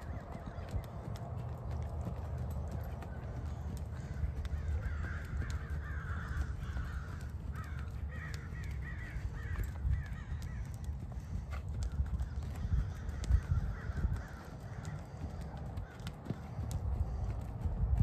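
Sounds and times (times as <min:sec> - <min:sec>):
bird harsh repeated calls: 0:00.0 - 0:17.4
hoofbeats on soft sand: 0:00.0 - 0:18.0.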